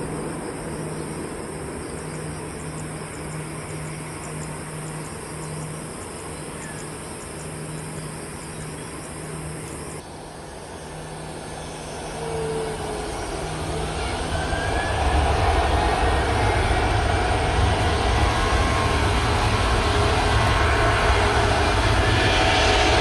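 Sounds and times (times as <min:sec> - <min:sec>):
jet engines spooling up: 0:00.0 - 0:23.0.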